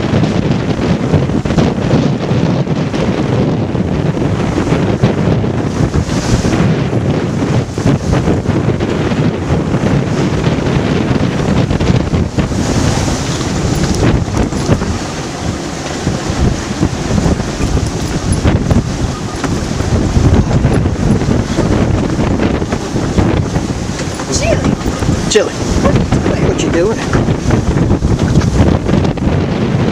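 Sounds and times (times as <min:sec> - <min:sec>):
water rushing past hull: 0:00.0 - 0:29.9
wind buffeting microphone: 0:00.0 - 0:29.9.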